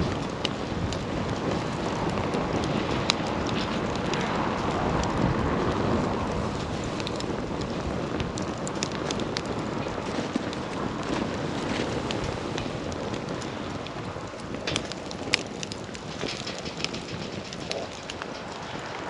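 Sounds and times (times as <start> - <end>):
burning wood crackling and popping: 0.0 - 19.0
rush of campfire flames: 0.0 - 19.0.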